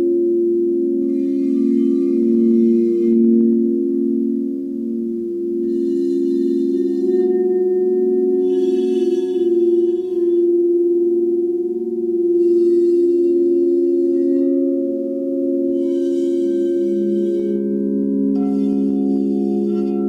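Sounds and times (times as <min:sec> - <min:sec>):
crystal singing bowls ringing: 0:00.0 - 0:20.0.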